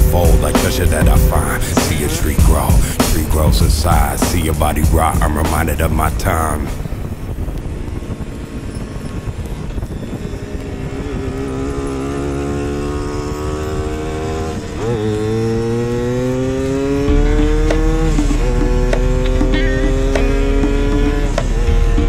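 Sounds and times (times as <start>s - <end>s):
moped engine accelerating: 0.0s - 22.0s.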